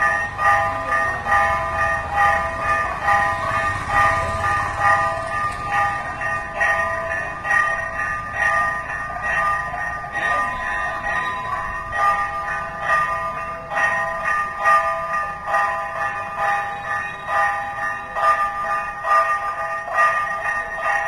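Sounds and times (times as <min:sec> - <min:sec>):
temple bells ringing: 0:00.0 - 0:21.0.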